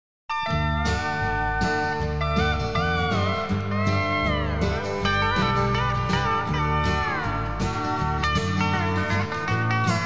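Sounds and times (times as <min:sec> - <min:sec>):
country-rock instrumental: 0:00.3 - 0:10.0
pedal steel guitar: 0:00.3 - 0:10.0.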